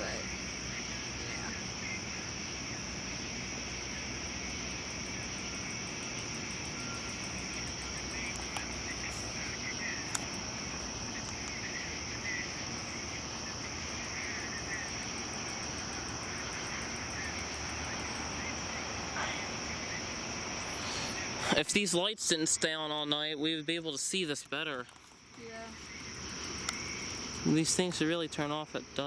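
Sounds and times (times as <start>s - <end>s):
crickets trilling: 0.0s - 29.0s
fast pulsing insect trill: 0.0s - 29.0s.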